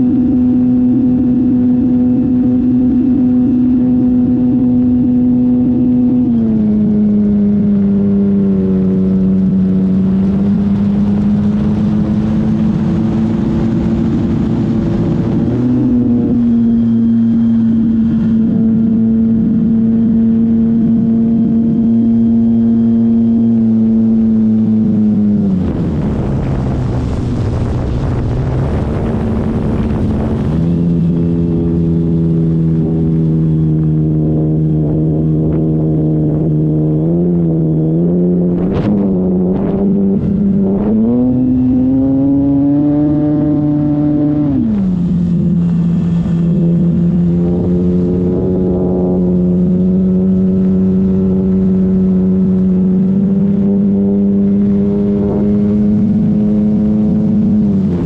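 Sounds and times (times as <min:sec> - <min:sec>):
wind noise: 0:00.0 - 0:58.0.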